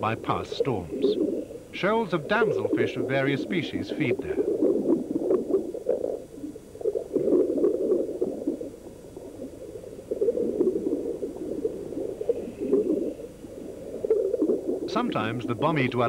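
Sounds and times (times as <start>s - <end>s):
underwater bubbling and gurgling: 0.0s - 16.0s.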